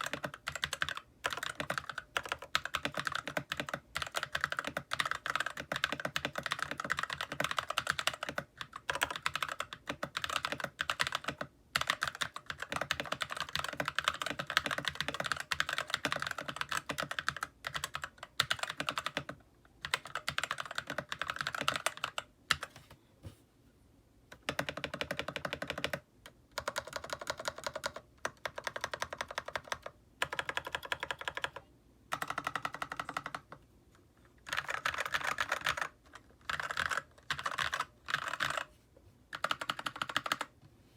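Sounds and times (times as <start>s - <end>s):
mechanical keyboard typing: 0.0s - 22.8s, 24.3s - 33.6s, 34.4s - 38.7s, 39.3s - 40.5s.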